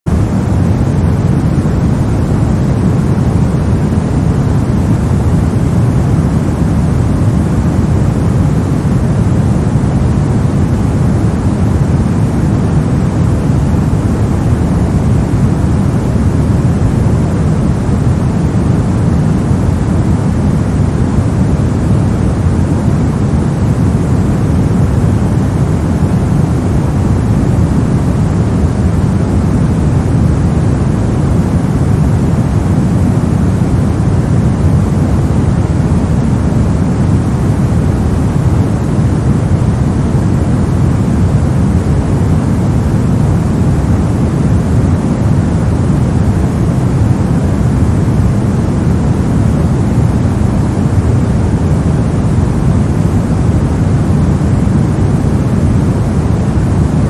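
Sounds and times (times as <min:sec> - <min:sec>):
low white noise hiss: 0:00.1 - 0:57.0.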